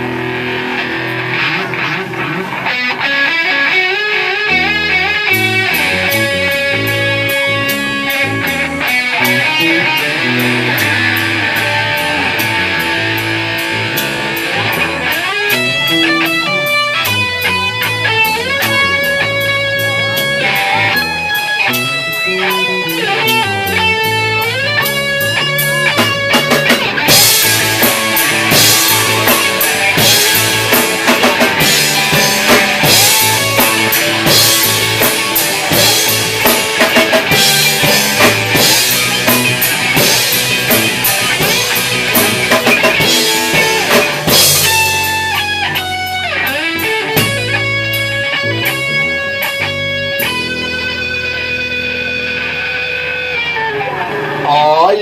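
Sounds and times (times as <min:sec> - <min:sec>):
drum kit playing: 0:00.0 - 0:55.0
electric guitar lead: 0:00.0 - 0:55.0.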